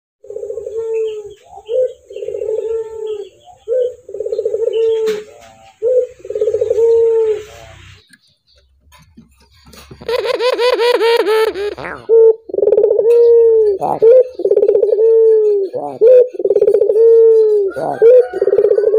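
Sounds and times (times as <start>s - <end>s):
dove cooing: 0.2s - 7.6s, 10.0s - 18.9s.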